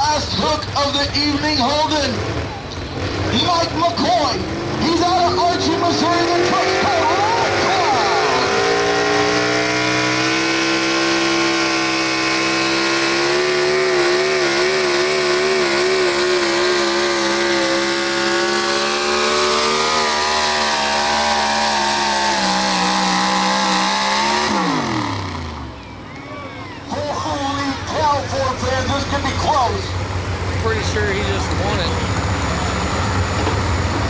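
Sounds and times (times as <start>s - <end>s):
truck engine at high revs: 0.0s - 34.0s.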